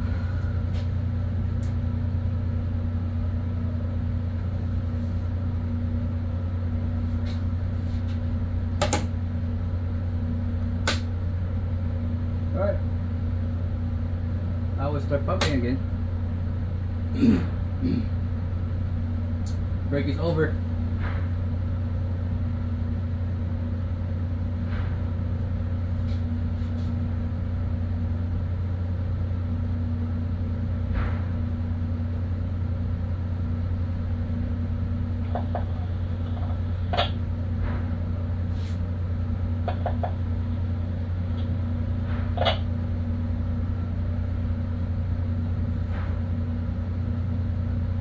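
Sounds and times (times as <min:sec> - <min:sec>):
shipboard machinery humming: 0:00.0 - 0:48.0.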